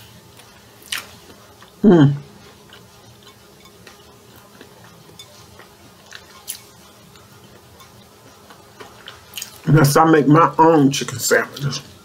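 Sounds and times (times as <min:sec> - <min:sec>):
person chewing food: 0:00.0 - 0:09.7.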